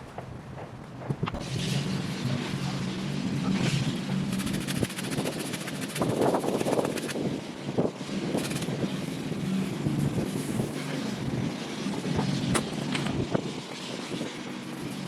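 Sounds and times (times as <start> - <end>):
small engine running: 1.4 - 15.0.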